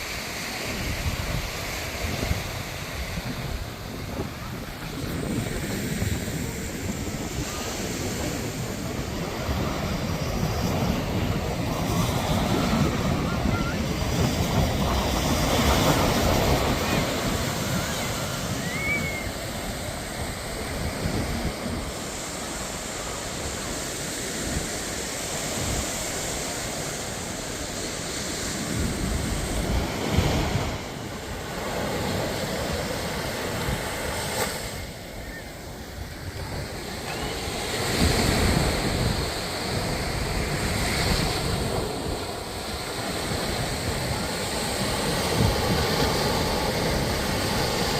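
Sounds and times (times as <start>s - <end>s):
sea waves breaking on beach: 0.0s - 47.9s
wind buffeting microphone: 0.0s - 47.9s.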